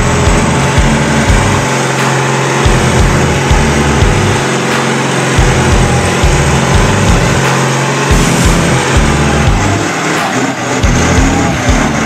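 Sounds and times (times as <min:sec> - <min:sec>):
diesel tractor engine running hard: 0:00.0 - 0:12.0.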